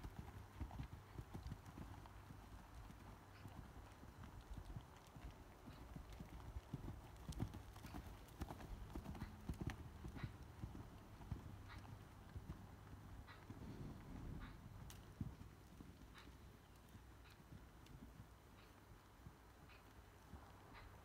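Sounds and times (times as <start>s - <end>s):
horse hoofbeats on sand: 0.0s - 21.0s.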